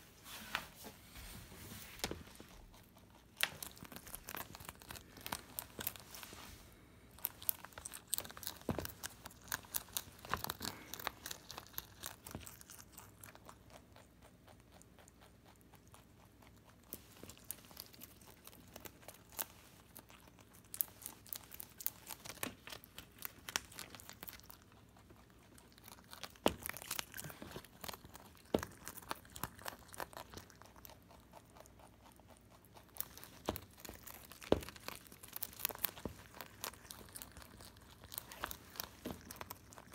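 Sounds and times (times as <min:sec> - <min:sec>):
rabbit crunching cabbage leaf: 0:00.2 - 0:39.9.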